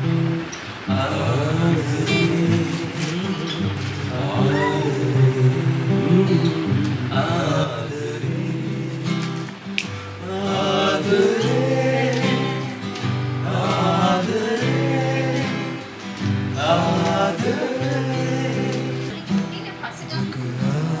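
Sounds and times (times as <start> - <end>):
guitar accompaniment: 0.0 - 21.0
voices singing together: 0.0 - 21.0.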